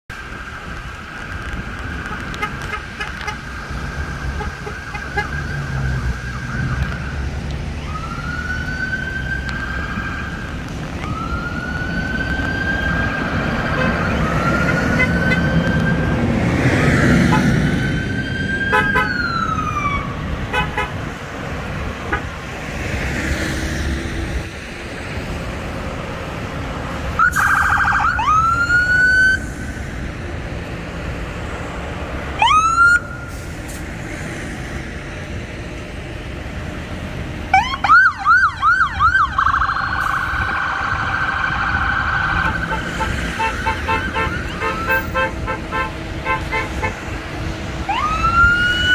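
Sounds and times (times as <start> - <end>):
bus engines rumbling: 0.1 - 48.9
police sirens wailing: 0.2 - 34.0, 34.7 - 48.9.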